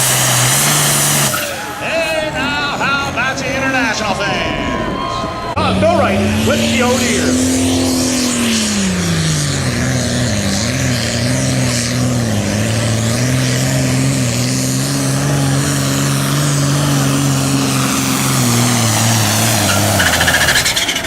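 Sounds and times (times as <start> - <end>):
diesel tractor engine under load: 0.0 - 21.0.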